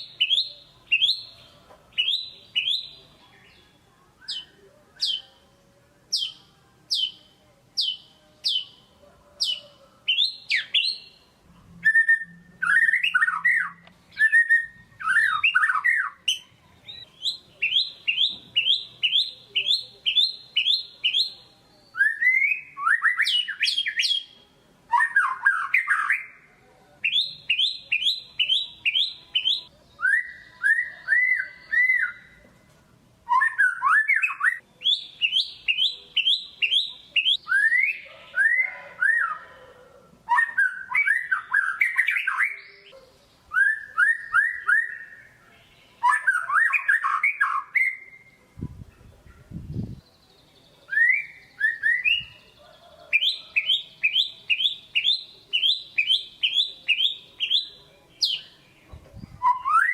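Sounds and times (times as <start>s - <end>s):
bird singing loudly: 0.0s - 3.6s, 4.2s - 5.4s, 7.8s - 8.8s, 9.4s - 11.2s, 11.8s - 26.4s, 27.0s - 32.4s, 33.3s - 39.6s, 40.3s - 48.3s, 49.5s - 58.7s, 59.4s - 59.9s.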